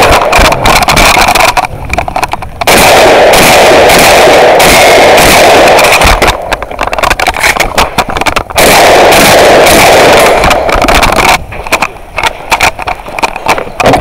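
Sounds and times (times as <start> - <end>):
shotgun firing: 0.0 - 1.7, 2.6 - 14.0.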